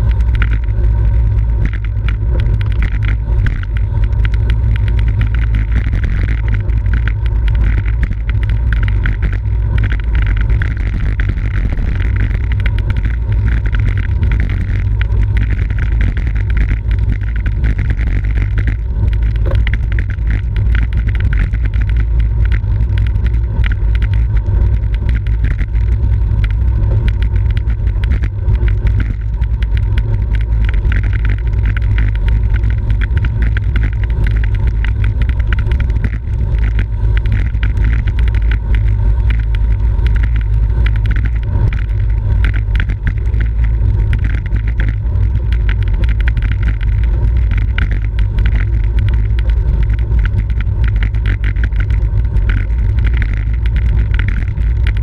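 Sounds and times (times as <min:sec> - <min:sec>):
bicycle clicks and rattles: 0:00.0 - 0:55.0.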